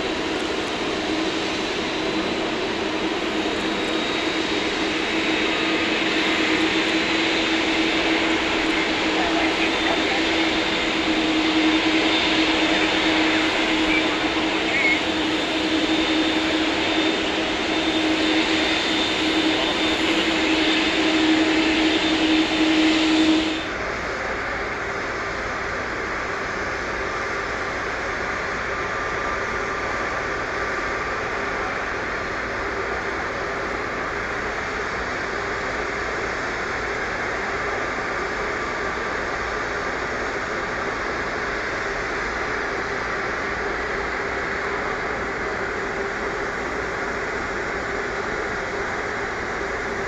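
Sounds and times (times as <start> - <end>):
faint high whine: 0.0 - 50.0
jet engines running: 0.0 - 50.0.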